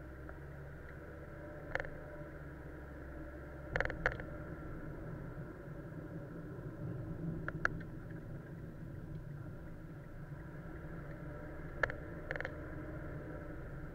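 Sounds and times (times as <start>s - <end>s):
car engine hum: 0.0s - 13.9s.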